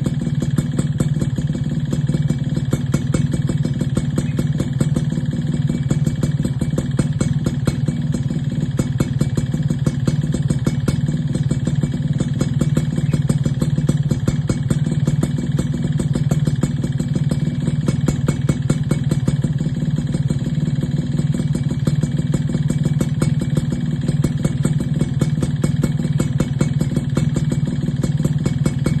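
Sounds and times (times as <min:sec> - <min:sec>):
two-stroke motorcycle engine running: 0:00.0 - 0:29.0.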